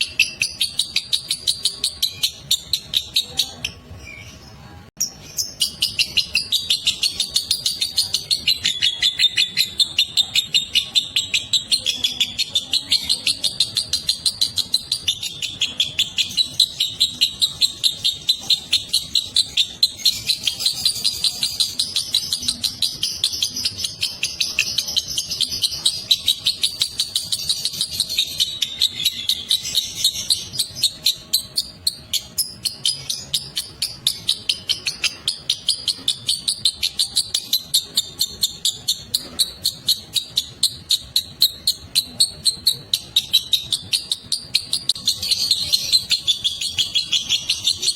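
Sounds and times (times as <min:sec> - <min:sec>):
lovebird shrill chirping chatter: 0:00.0 - 0:04.4, 0:05.0 - 0:47.9.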